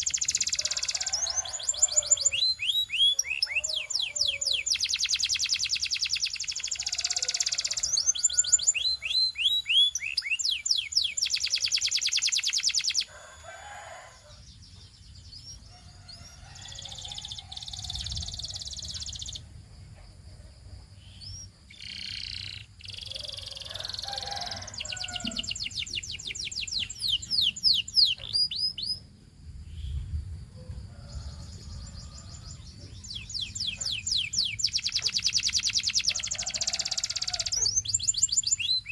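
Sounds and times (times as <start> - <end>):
canary singing trills: 0.0 - 19.5, 21.0 - 29.1, 31.1 - 38.9.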